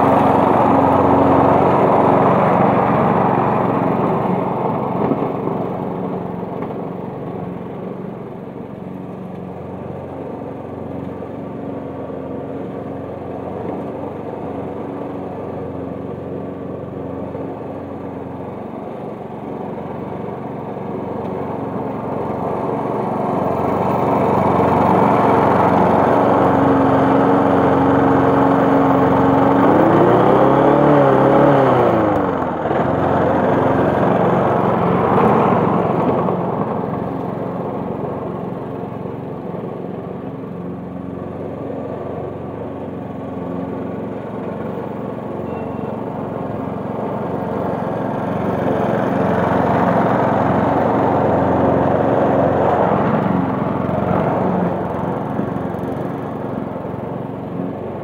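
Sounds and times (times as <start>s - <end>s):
lawn mower engine cutting grass: 0.0s - 58.0s.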